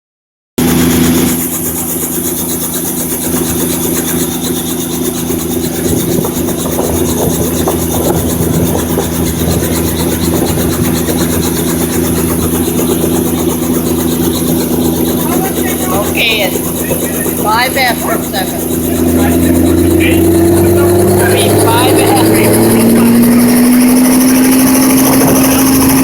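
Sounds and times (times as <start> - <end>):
helicopter engine hum: 0.6 - 26.0
helicopter rotor chop: 0.6 - 26.0.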